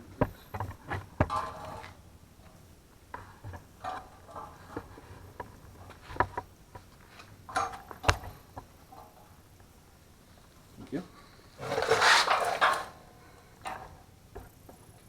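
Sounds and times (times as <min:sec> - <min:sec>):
small objects clicking and knocking: 0:00.2 - 0:09.8, 0:11.5 - 0:14.8.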